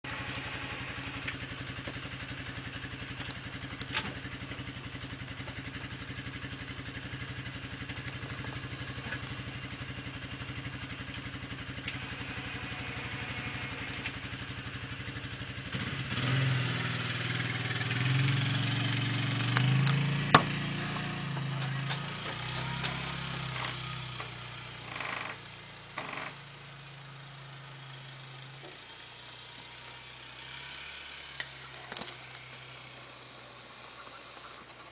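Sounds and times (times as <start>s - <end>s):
snow plow engine: 0.0s - 34.9s.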